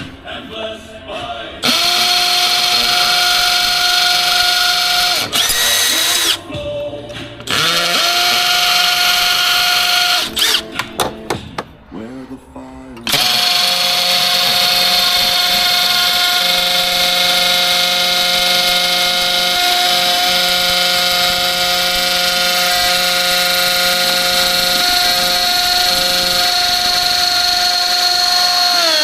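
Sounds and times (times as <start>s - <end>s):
power drill motor whining: 1.6s - 6.4s, 7.4s - 10.8s, 13.0s - 29.0s.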